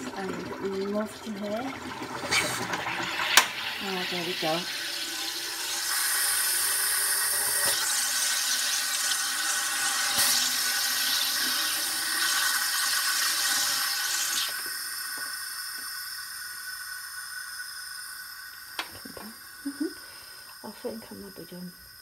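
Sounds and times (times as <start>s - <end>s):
gas hissing and bubbling into water: 0.0s - 22.0s.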